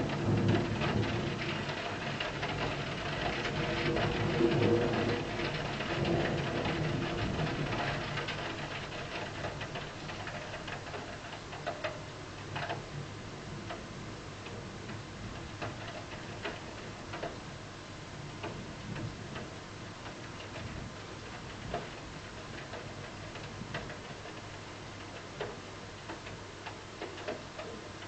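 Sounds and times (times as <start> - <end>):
raindrops ticking: 0.0 - 28.0
steady rain: 0.0 - 28.0.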